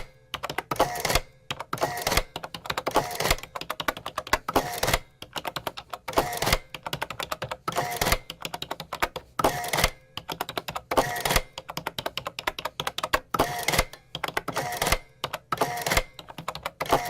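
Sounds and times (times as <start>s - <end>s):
adding machine key clicks: 0.0s - 17.0s.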